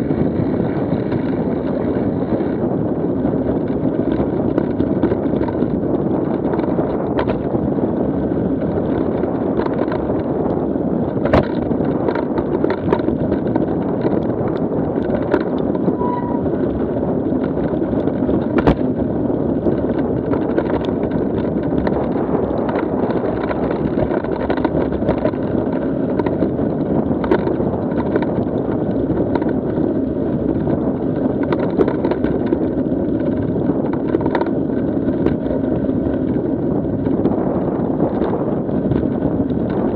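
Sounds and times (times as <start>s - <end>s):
bike tyres rumbling on dirt: 0.0s - 39.9s
wind on microphone: 0.0s - 39.9s.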